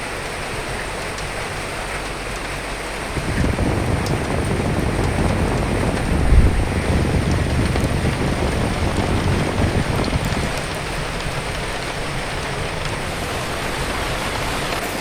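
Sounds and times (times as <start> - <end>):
steady rain falling: 0.0 - 15.0
wind gust rumbling: 2.9 - 15.0.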